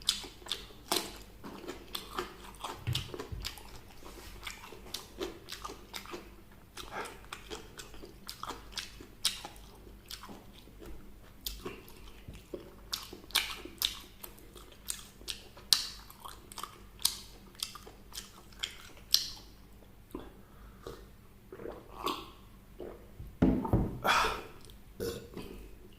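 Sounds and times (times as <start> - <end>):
crunchy fried chicken eating: 0.0 - 22.4.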